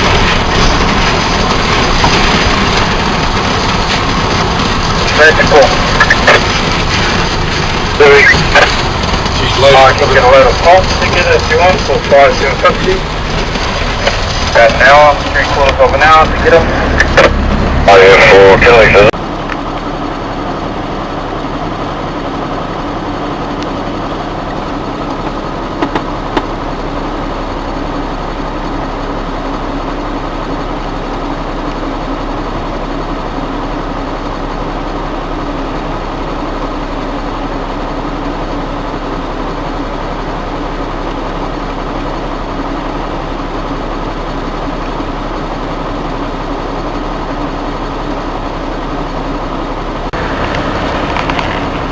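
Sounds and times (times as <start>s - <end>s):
truck diesel engine drone: 0.0s - 51.9s.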